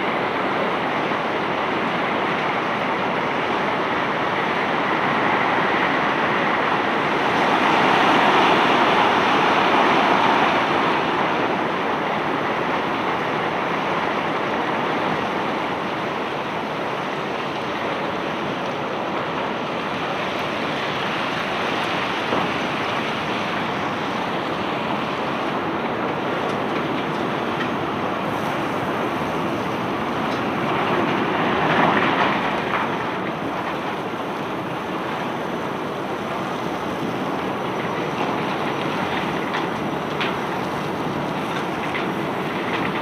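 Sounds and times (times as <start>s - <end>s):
steady rushing noise: 0.0s - 43.0s.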